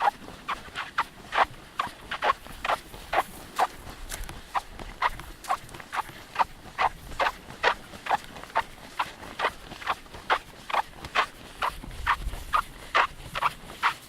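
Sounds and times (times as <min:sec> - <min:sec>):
squeaking sand underfoot: 0:00.0 - 0:14.0.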